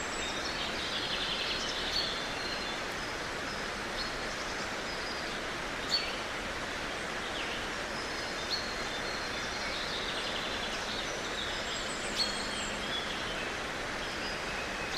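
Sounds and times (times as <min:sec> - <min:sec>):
steady outdoor hiss: 0:00.0 - 0:14.9.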